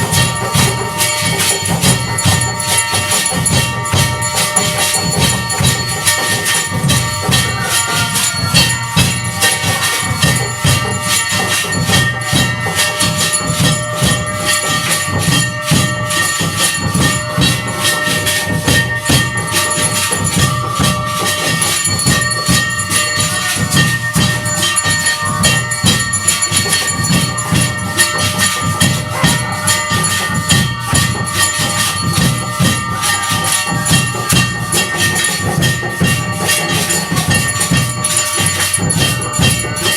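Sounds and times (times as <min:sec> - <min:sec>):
bells and cymbals struck rapidly: 0:00.0 - 0:39.9
pulsing drum beat: 0:00.0 - 0:39.9.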